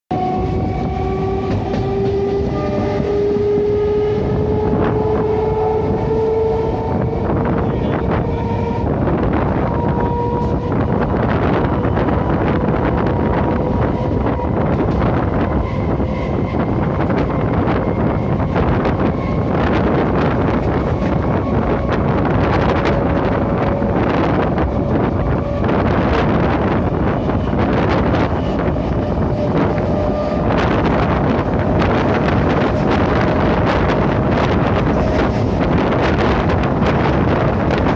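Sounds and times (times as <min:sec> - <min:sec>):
wheels rumbling on rails: 0:00.1 - 0:37.9
wind buffeting microphone: 0:00.1 - 0:37.9
traction motor whine: 0:00.2 - 0:37.8.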